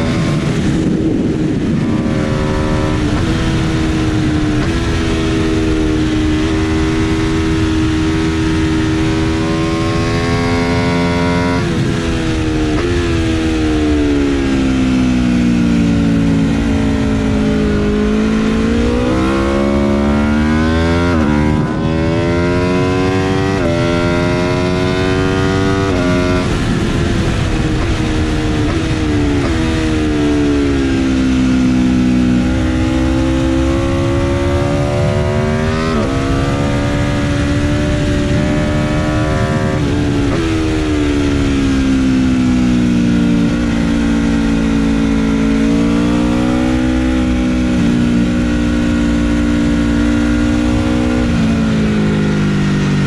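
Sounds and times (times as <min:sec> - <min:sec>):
motorcycle engine shifting gears: 0:00.0 - 0:53.0
wind rush: 0:00.0 - 0:53.0.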